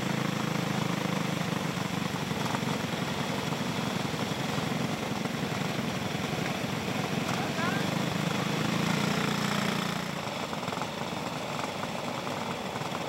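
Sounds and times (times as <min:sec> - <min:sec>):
go-kart engines droning: 0:00.0 - 0:13.0.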